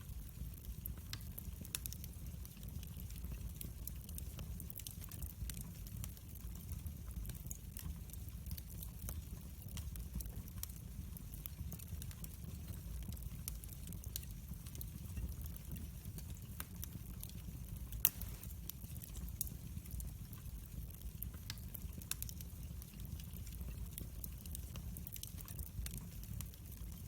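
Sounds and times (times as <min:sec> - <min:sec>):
fire crackling and popping: 0:00.0 - 0:27.0
fire flames rumbling: 0:00.0 - 0:27.0.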